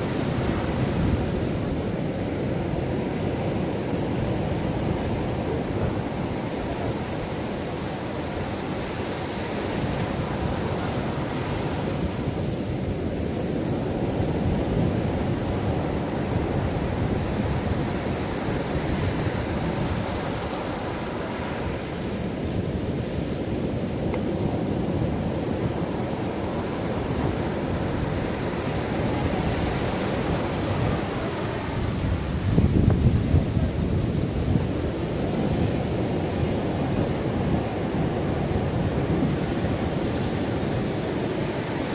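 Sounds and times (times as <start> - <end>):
ocean waves breaking on shore: 0.0 - 41.9
wind rumble on microphone: 0.0 - 41.9.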